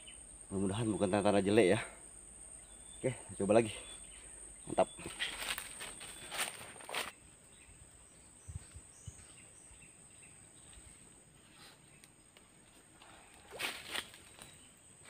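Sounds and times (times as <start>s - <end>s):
faint bird chirps: 0.0s - 14.9s
insect drone: 0.0s - 15.0s.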